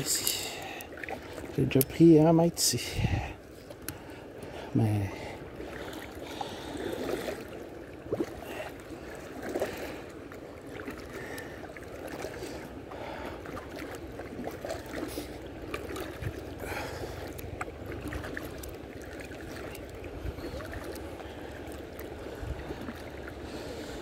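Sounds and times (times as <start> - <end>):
paddle strokes in water: 0.0 - 24.0
water splashes and drips: 0.0 - 24.0.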